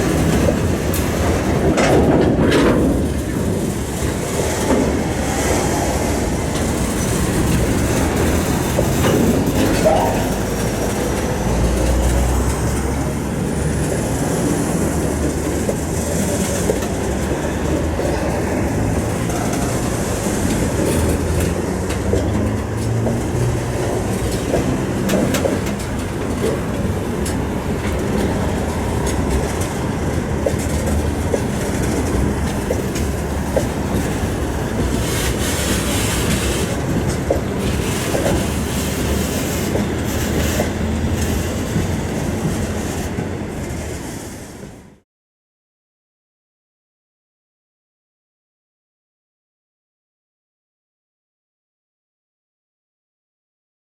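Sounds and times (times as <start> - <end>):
train wheels clattering over rails: 0.0 - 45.0.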